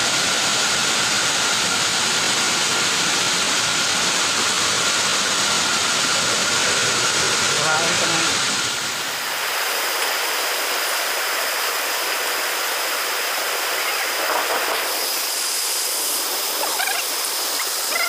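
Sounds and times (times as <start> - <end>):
floodwater rushing: 0.0 - 18.0
heavy rain: 0.0 - 18.0.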